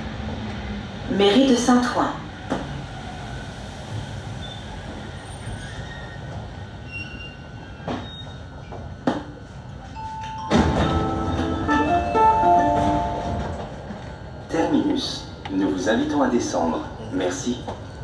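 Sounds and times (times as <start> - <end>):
metro train rumble: 0.0 - 18.0.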